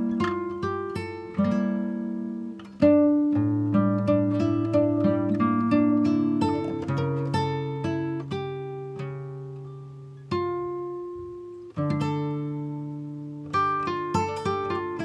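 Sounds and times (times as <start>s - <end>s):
acoustic guitar plucking: 0.0s - 15.0s.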